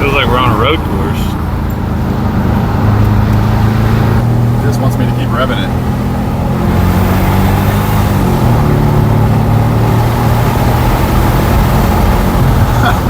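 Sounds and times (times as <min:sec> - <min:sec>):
loud unmuffled car engine: 0:00.0 - 0:13.0.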